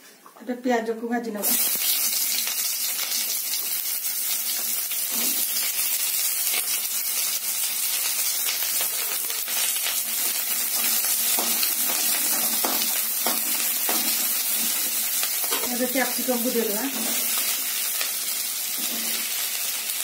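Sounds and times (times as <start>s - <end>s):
onions sizzling in hot oil: 1.4s - 20.0s.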